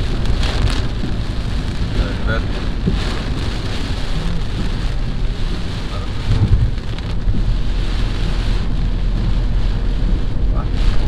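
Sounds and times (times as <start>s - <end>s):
heavy rain on car windshield: 0.0s - 11.0s
low car rumble: 0.0s - 11.0s.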